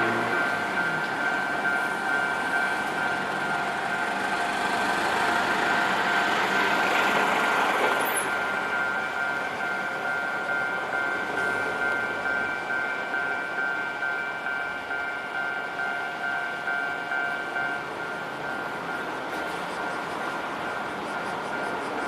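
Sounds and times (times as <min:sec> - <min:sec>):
level crossing warning bell: 0:00.0 - 0:22.0
road and rail noise: 0:00.0 - 0:22.0.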